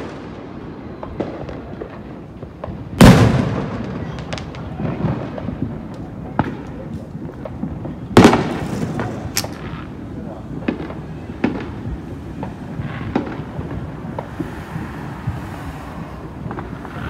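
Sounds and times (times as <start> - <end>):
firework booms: 0.0 - 17.0
firework pops and crackles: 0.0 - 17.0.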